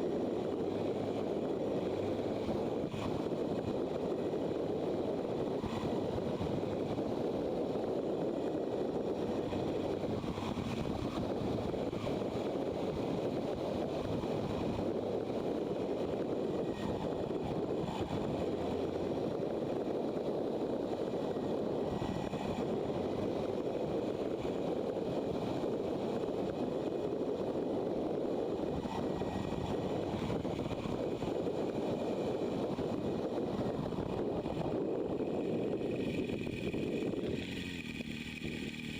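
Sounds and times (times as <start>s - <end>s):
motorcycle engine cruising: 0.0s - 38.9s
wind rushing over microphone: 0.0s - 38.9s.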